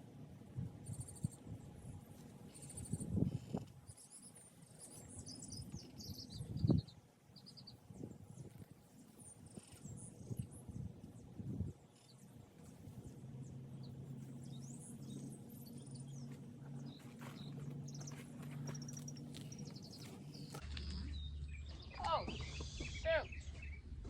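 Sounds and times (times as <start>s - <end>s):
small birds chirping: 0.3s - 24.0s.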